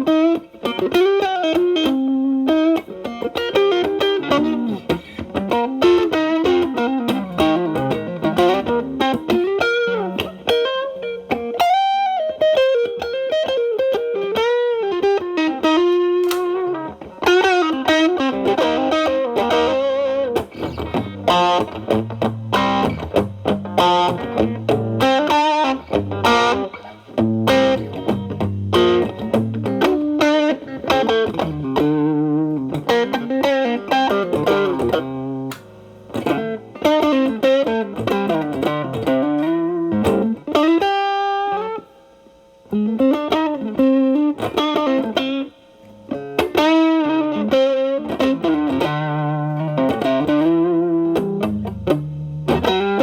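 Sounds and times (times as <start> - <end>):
distorted electric guitar blues licks: 0.0 - 53.0.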